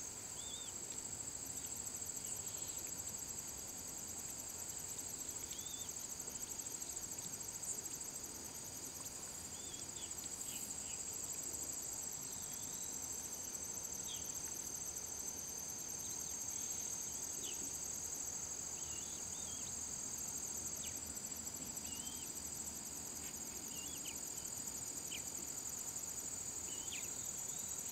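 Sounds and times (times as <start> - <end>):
insect chorus trilling: 0.0 - 27.9.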